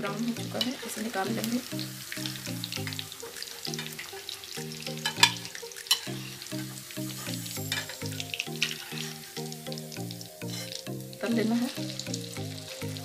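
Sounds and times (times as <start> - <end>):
hot oil sizzling and crackling: 0.0 - 13.0
simple background tune: 0.0 - 13.0.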